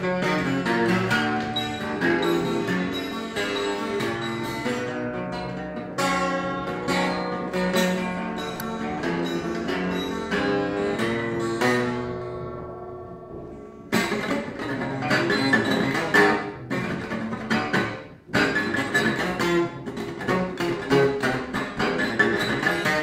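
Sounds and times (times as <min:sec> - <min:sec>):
twelve-string acoustic guitar strumming: 0:00.0 - 0:23.0.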